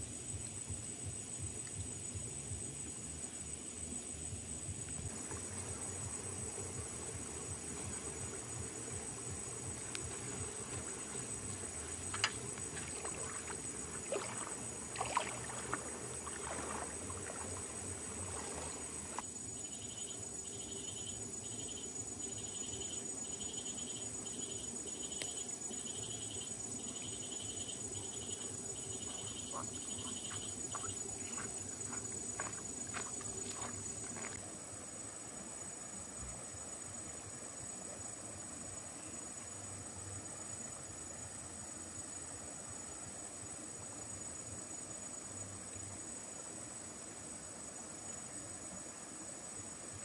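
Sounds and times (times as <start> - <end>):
insect pulsing chirp: 0.0 - 50.0
insects trilling: 0.0 - 50.0.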